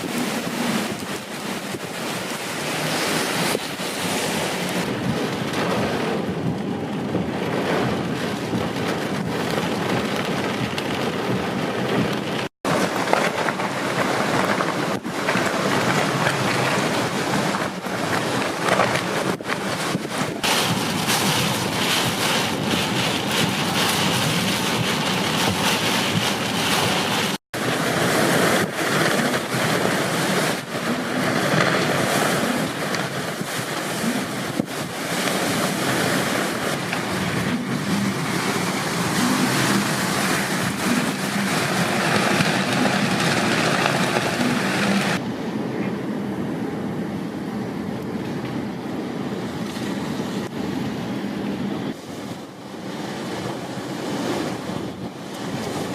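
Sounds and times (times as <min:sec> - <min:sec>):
strong wind gusting on microphone: 0:00.0 - 0:55.9.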